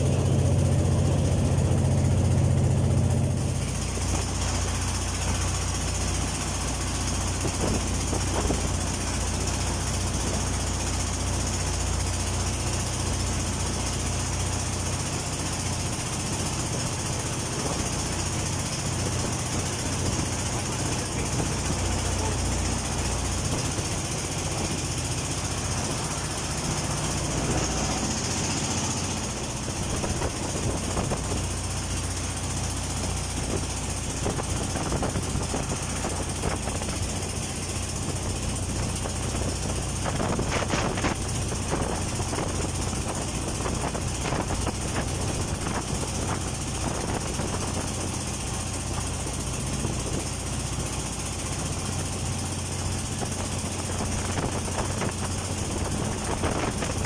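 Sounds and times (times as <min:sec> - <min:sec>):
boat engine knocking rumble: 0:00.0 - 0:57.0
wind and water hiss: 0:00.0 - 0:57.0.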